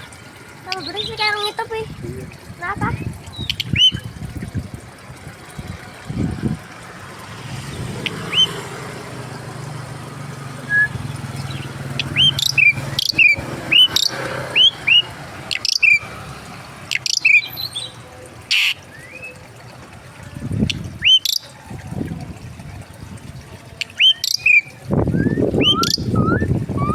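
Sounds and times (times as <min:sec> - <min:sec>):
birds chirping: 0:00.0 - 0:04.2, 0:07.2 - 0:23.0, 0:23.6 - 0:26.9.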